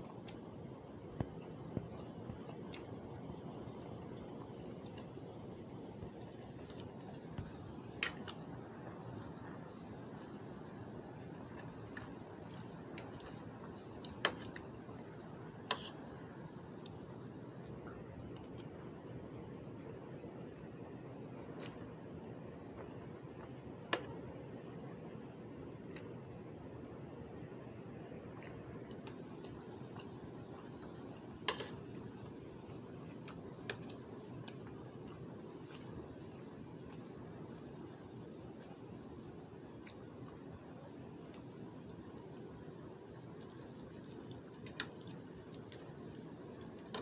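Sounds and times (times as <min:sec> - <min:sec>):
steady low hiss: 0:00.0 - 0:47.0.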